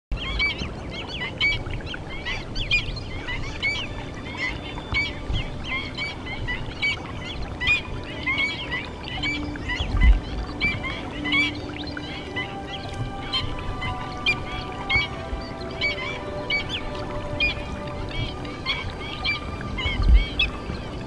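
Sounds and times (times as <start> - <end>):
flock of birds calling: 0.1 - 21.0.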